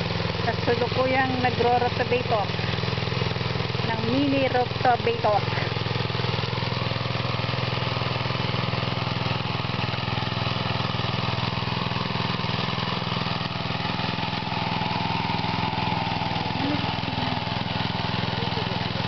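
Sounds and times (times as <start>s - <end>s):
small rotovator engine running: 0.0s - 19.0s.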